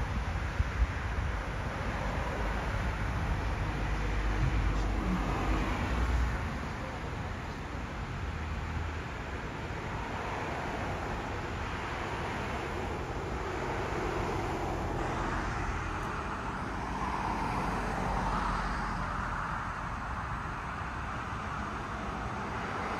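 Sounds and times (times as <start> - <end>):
road traffic noise: 0.0 - 22.9.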